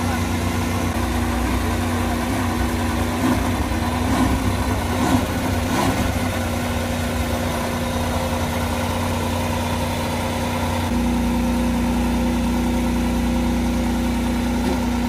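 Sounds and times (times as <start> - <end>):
car engine idling with blips: 0.0 - 15.0.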